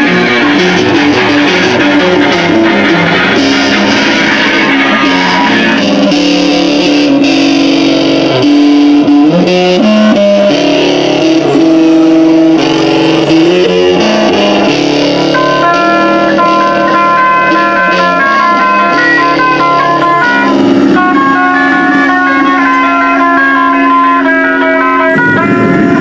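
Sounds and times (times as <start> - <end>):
distorted electric guitars: 0.0 - 26.0.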